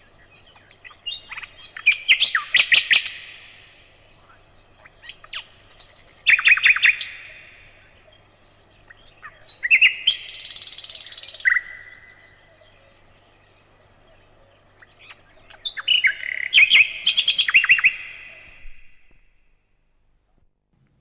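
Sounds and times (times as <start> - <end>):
nightingale singing: 0.0 - 19.4.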